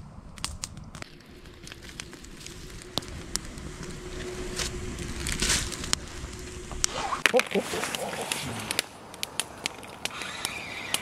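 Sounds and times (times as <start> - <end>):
low steady rumble: 0.0 - 10.0
campfire crackling and popping: 0.0 - 11.0.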